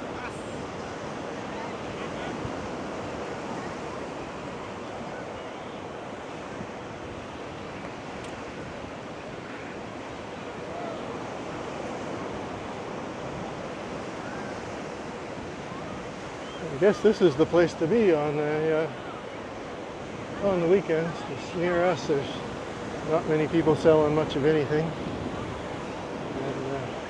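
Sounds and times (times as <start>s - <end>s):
wind on microphone: 0.0s - 17.5s, 22.3s - 27.0s
ocean surf breaking: 0.0s - 27.0s.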